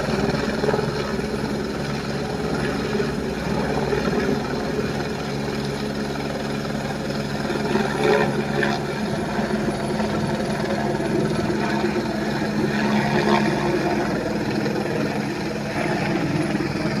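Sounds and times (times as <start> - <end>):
helicopter engine and turbine hum: 0.0 - 17.0
helicopter rotor blades chopping: 0.0 - 17.0.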